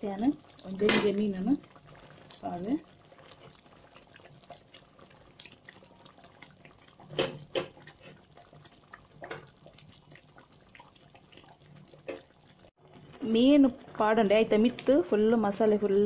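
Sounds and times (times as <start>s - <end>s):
gravy simmering and bubbling: 0.0s - 16.0s.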